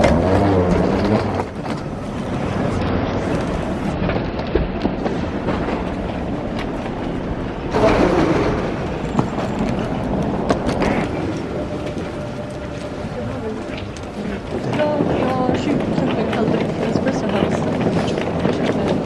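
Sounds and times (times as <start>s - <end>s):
moving vehicle rumbling: 0.0s - 19.0s.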